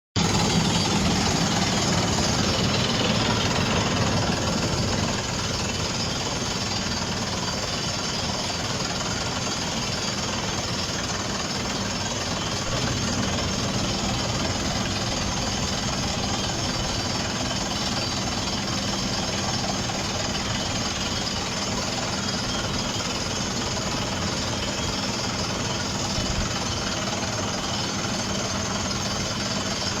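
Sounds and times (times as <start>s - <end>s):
drilling rig engine: 0.2s - 30.0s
drilling rig hammering: 0.2s - 30.0s.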